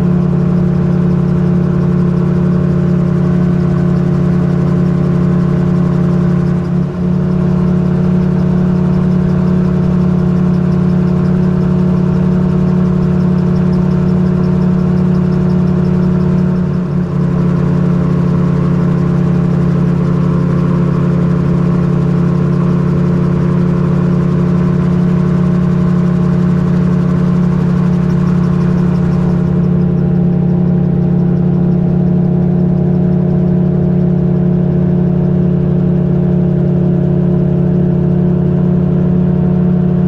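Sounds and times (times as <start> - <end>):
gyrocopter engine and propeller drone: 0.0 - 40.0.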